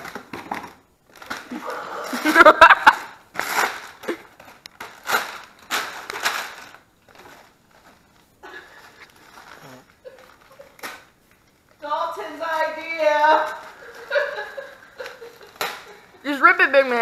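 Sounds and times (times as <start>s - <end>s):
package rustling: 0.0s - 17.0s
wrapping paper tearing and crumpling: 0.0s - 17.0s.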